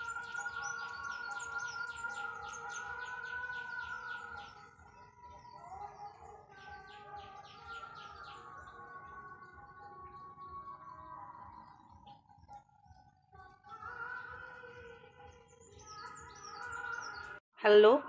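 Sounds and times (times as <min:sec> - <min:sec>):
bird chirping: 0:00.0 - 0:13.0, 0:13.7 - 0:17.4.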